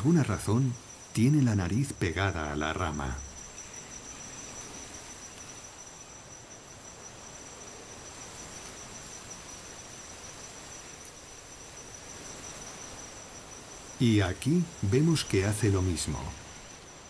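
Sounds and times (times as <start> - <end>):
insects trilling: 0.0 - 17.0
low even hiss: 0.0 - 17.0.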